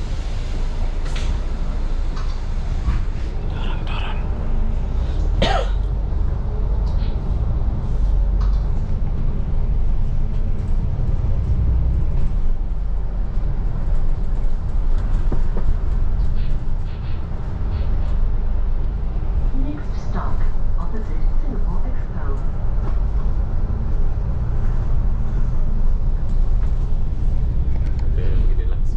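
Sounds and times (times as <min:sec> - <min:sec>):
bus engine and road rumble: 0:00.0 - 0:28.9.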